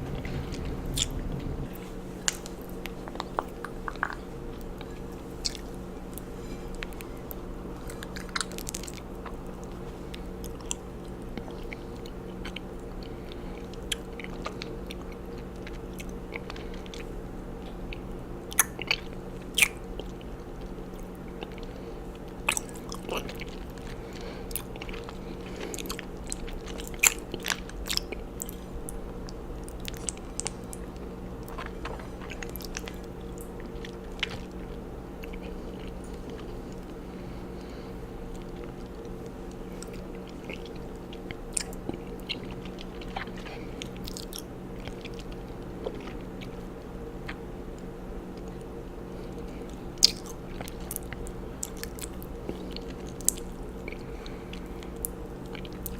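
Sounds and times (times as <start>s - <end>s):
mouth chewing honeycomb: 0.0s - 55.9s
steady low hum: 0.0s - 55.9s.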